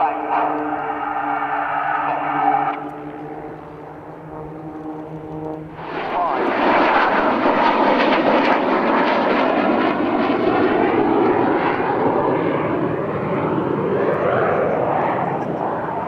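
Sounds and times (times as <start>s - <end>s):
aircraft engine passing: 0.0s - 16.0s.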